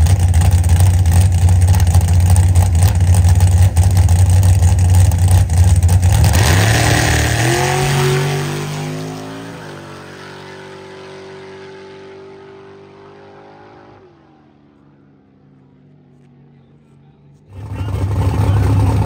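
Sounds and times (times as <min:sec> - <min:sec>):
drag car accelerating: 0:00.0 - 0:19.0.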